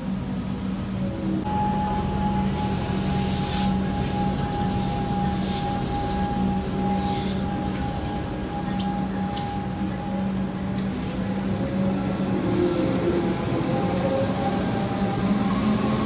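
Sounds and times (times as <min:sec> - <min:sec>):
electric train whine: 0:00.0 - 0:16.0
low train hum: 0:00.0 - 0:16.0
hiss from train wheels: 0:00.6 - 0:16.0.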